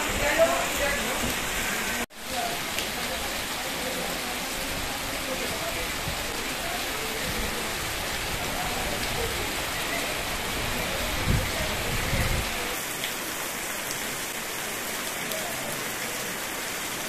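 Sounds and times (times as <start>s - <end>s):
heavy rain splashing into water: 0.0s - 17.0s.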